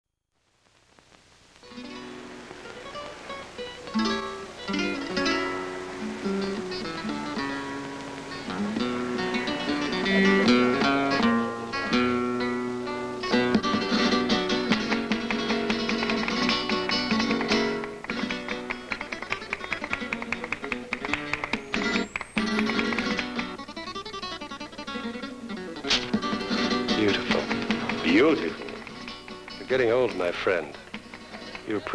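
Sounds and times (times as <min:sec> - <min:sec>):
flamenco acoustic guitar: 0:01.6 - 0:31.9.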